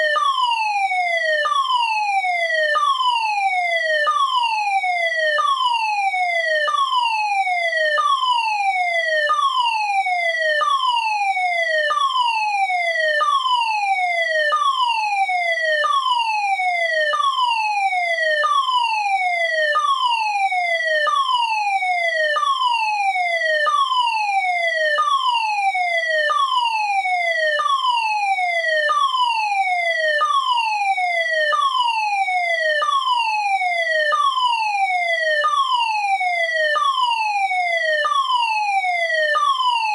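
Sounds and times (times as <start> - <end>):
fire alarm falling electronic tone: 0.0 - 39.9.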